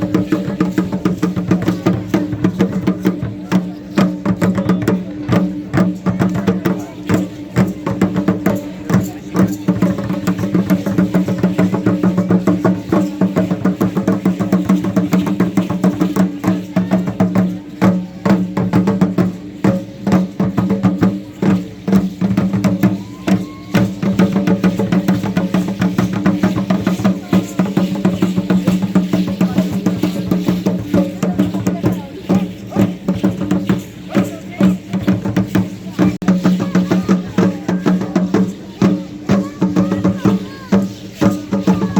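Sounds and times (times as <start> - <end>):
drum beats: 0.0 - 41.9
rapid clicking percussion: 0.0 - 41.9.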